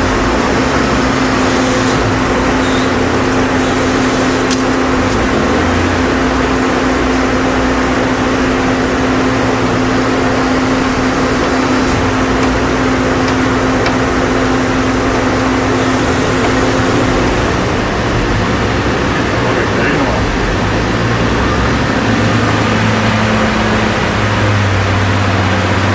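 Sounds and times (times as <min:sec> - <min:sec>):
machine hum: 0:00.0 - 0:25.9.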